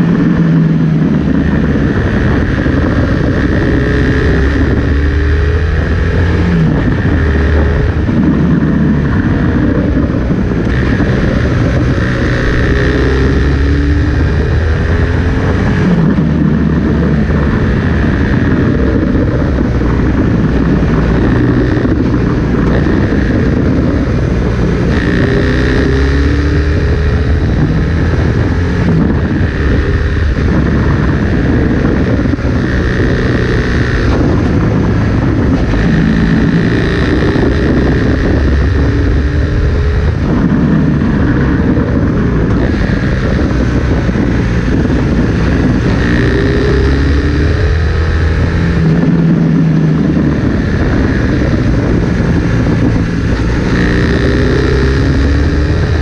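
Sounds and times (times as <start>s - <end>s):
motorcycle engine revving: 0.0s - 56.0s
wind rushing: 0.0s - 56.0s.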